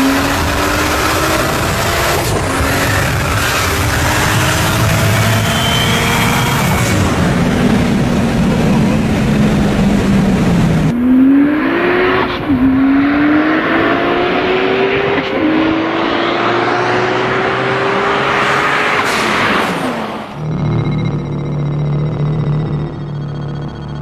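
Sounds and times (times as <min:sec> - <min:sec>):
wind and road noise: 0:00.0 - 0:20.5
racing car engine at full throttle: 0:00.0 - 0:24.0.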